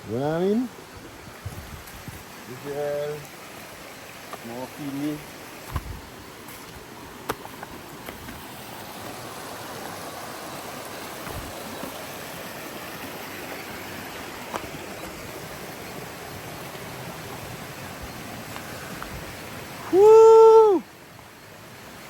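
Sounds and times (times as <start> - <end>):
waterfall rushing: 2.2 - 22.0.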